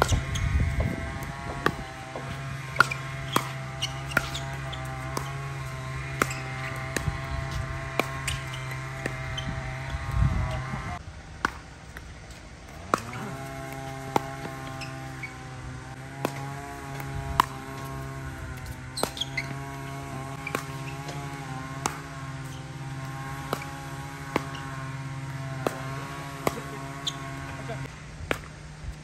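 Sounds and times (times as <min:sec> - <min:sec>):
paddles hitting ball: 0:00.0 - 0:10.8, 0:11.4 - 0:28.6.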